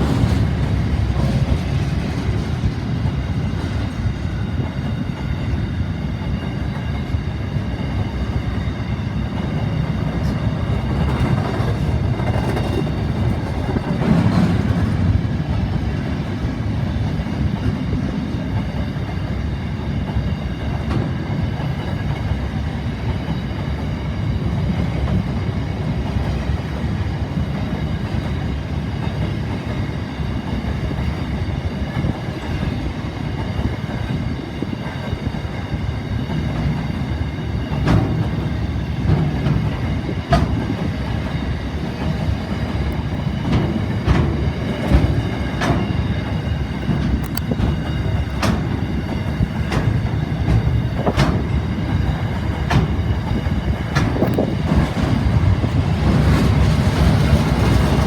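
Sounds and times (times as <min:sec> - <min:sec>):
freight train rolling past: 0:00.0 - 0:58.0
train wheels rumbling on rails: 0:00.0 - 0:58.0.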